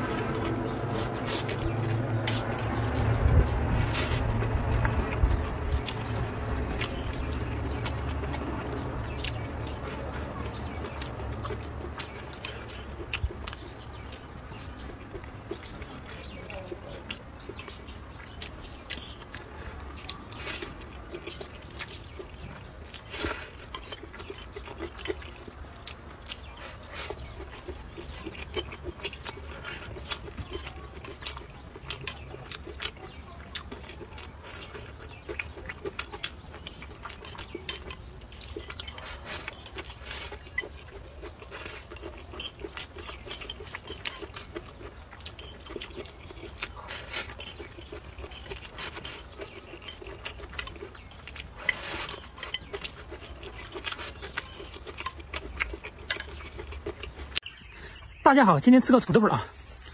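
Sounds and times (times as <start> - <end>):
chewing: 0.0 - 57.7
noodles slurping: 0.0 - 57.7.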